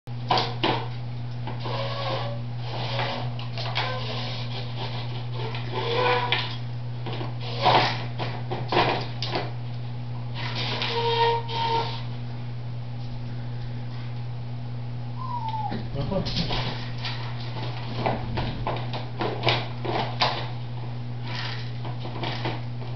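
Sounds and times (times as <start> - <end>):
steady low hum: 0.1 - 22.9.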